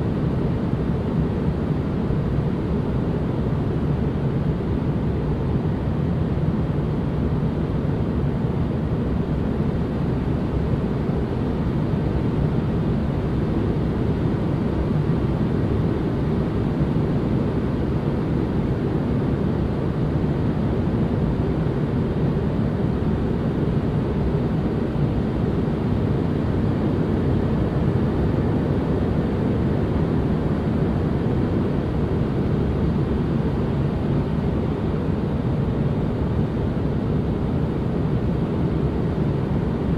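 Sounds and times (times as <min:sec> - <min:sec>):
muffled white noise rushing: 0:00.0 - 0:39.9.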